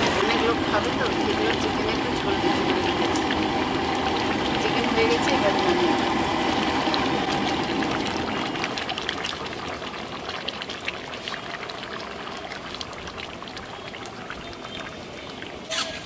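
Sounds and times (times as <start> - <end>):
curry bubbling in a pan: 0.0 - 16.0.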